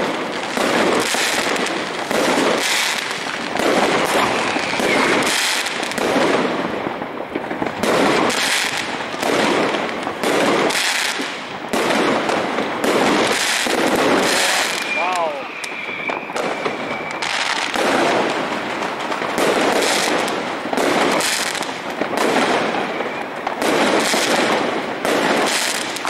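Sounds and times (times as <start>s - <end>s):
fireworks bursts and bangs: 0.0s - 26.0s
fireworks crackle: 0.0s - 26.0s.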